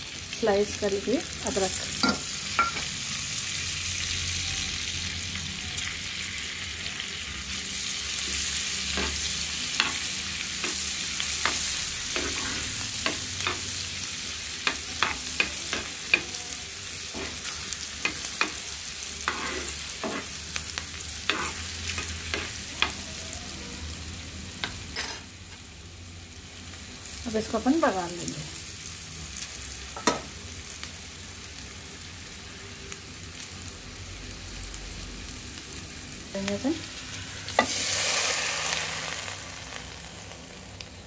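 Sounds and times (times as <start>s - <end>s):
chillies sizzling in oil: 0.0s - 41.0s.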